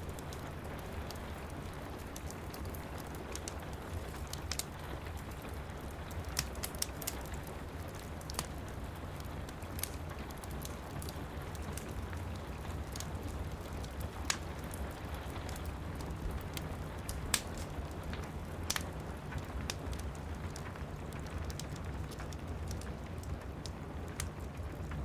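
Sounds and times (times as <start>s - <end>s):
rain on window glass: 0.0s - 25.0s
wood fire crackling: 0.0s - 25.0s.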